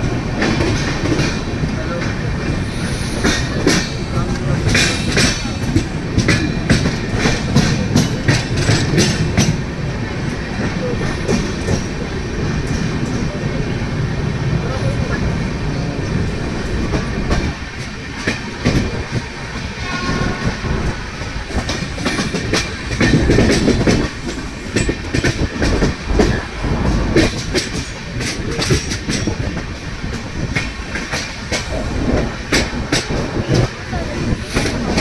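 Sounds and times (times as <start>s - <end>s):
train rumbling: 0.0s - 35.0s
wheels clacking over rail joints: 0.0s - 35.0s.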